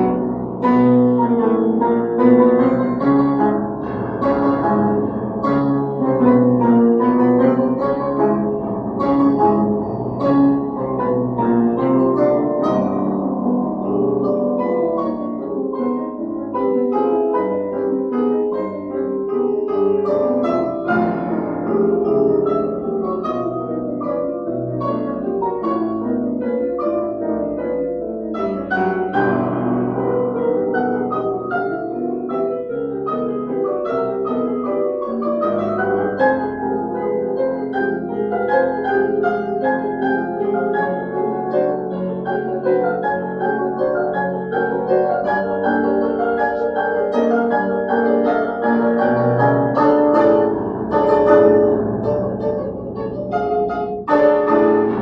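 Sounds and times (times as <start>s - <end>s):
piano duet: 0.0s - 55.0s.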